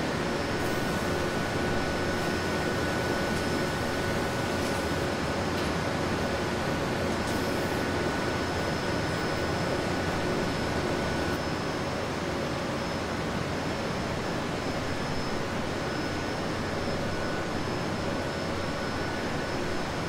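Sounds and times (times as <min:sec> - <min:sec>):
faint high machine whines: 0:00.0 - 0:20.0.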